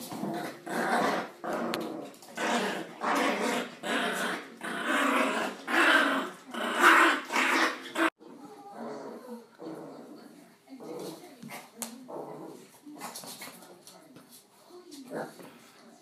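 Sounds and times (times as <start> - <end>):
dogs growling: 0.0 - 13.2.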